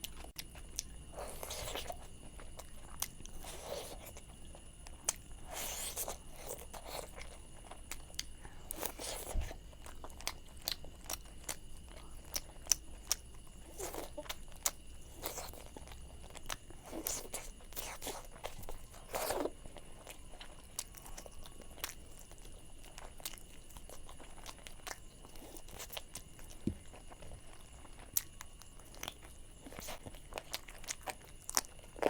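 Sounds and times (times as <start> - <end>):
close chewing and biting: 0.0 - 32.0.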